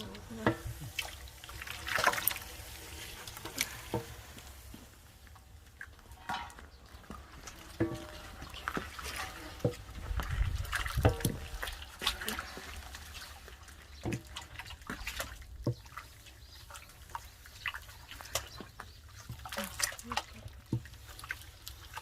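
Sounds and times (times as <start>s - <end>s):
water dripping and splashing: 0.0s - 22.0s.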